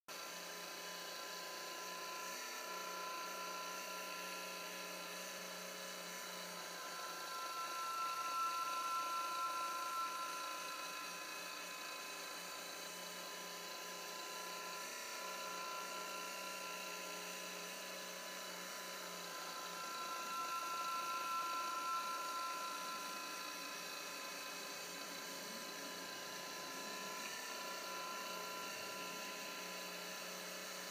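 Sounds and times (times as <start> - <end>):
turntable motor whining: 0.7 - 30.9.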